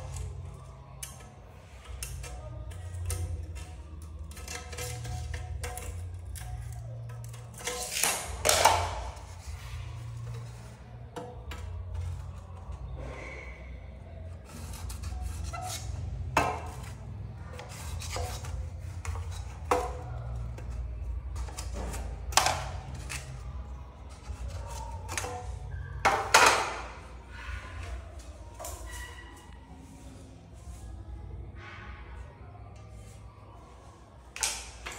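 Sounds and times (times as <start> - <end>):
tool scraping: 1.0 - 30.2.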